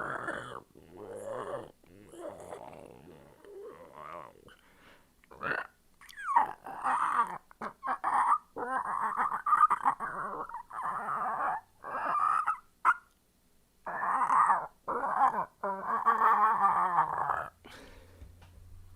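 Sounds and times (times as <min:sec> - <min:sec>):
person whining like a dog: 0:00.0 - 0:04.5, 0:05.3 - 0:13.0, 0:13.8 - 0:17.6
person growling like a dog: 0:00.0 - 0:04.6, 0:05.3 - 0:12.6, 0:13.8 - 0:17.8.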